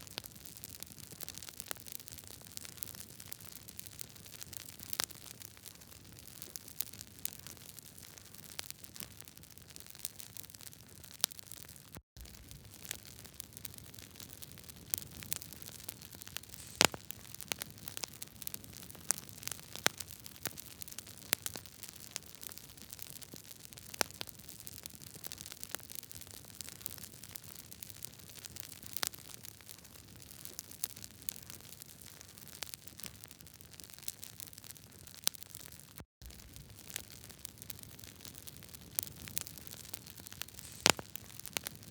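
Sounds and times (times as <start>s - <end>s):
campfire crackling: 0.2s - 35.4s, 36.2s - 41.9s.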